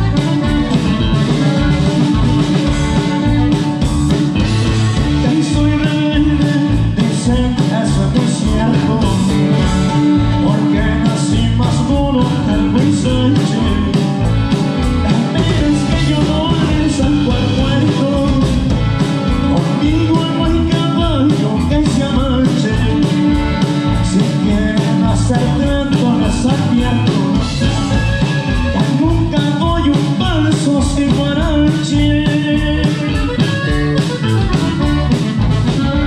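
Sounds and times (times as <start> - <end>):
acoustic guitar: 0.0 - 36.0
button accordion: 0.0 - 36.0
drum kit beat: 0.0 - 36.0
electric bass: 0.0 - 36.0.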